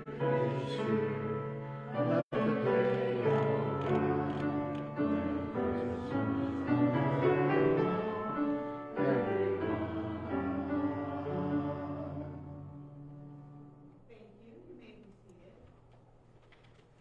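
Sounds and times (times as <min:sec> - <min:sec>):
piano chords: 0:00.0 - 0:14.1.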